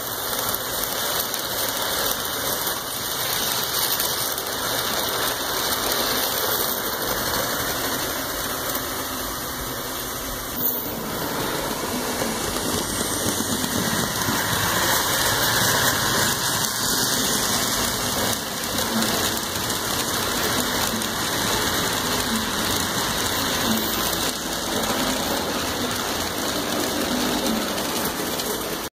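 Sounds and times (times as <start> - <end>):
model train motor whirring: 0.0 - 28.9.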